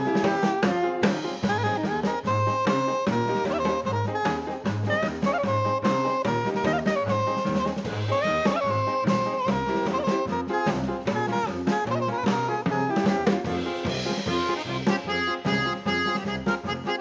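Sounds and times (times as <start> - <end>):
drum kit beat: 0.0 - 17.0
jazz horn melody: 0.0 - 17.0.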